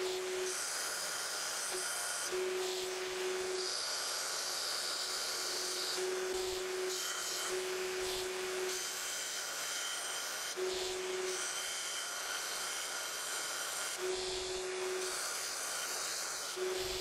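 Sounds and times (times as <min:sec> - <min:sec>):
belt grinder grinding steel: 0:00.0 - 0:17.0.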